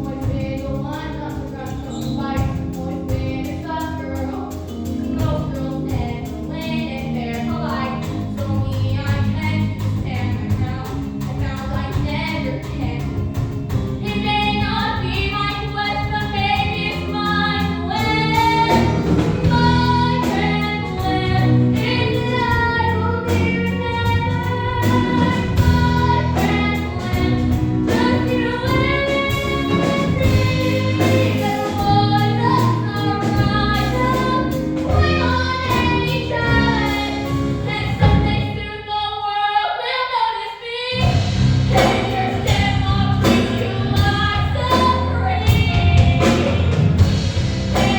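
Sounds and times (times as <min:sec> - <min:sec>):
girl singing: 0:00.0 - 0:13.2, 0:14.0 - 0:47.1
instrumental accompaniment: 0:00.0 - 0:39.0, 0:40.9 - 0:47.9.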